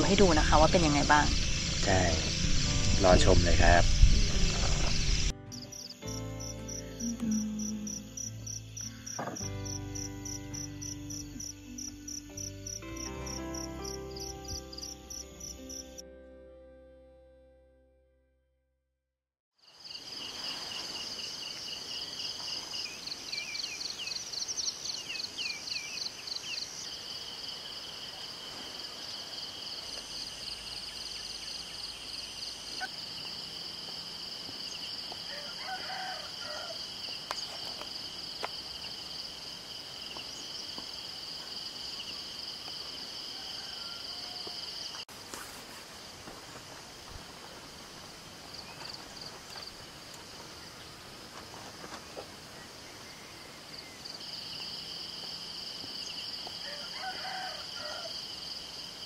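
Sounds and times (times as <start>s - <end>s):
insect chorus trilling: 0.0s - 16.0s, 19.6s - 45.1s, 52.7s - 59.0s.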